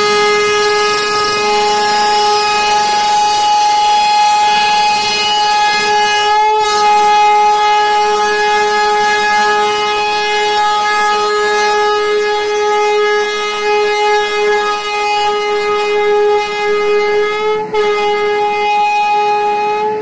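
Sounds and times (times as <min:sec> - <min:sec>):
locomotive horn: 0:00.0 - 0:20.0.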